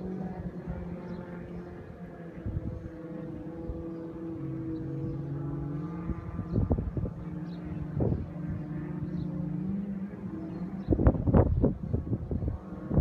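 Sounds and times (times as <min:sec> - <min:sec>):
distant jet ski engines droning: 0:00.0 - 0:13.0
wind buffeting microphone: 0:00.0 - 0:13.0.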